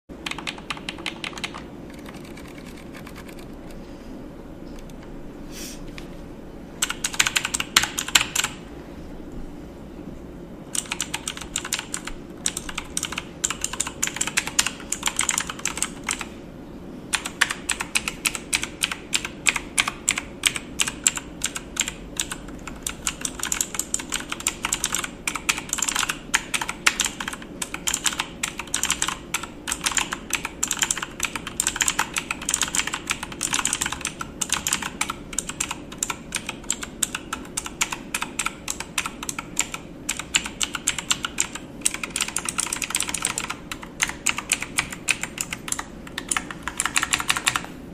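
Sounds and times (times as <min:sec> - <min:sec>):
keyboard typing: 0:00.2 - 0:03.8, 0:06.8 - 0:08.6, 0:10.7 - 0:16.3, 0:17.1 - 0:47.7.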